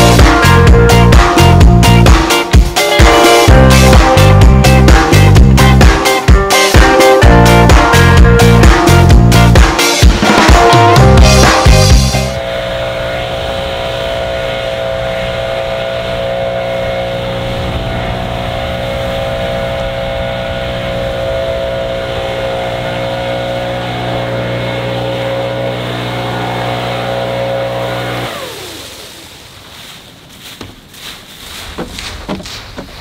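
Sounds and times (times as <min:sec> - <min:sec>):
leaf blower running: 0:00.0 - 0:32.6.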